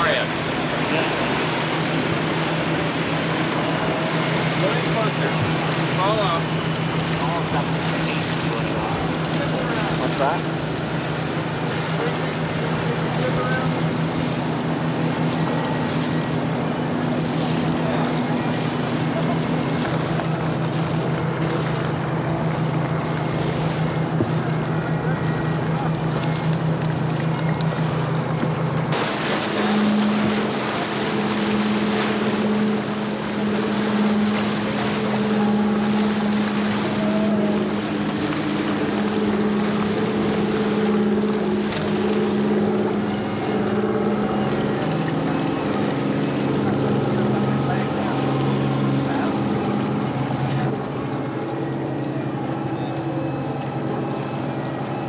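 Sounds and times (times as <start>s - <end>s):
boat engine droning: 0.0s - 55.0s
wind and water hiss: 0.0s - 55.0s.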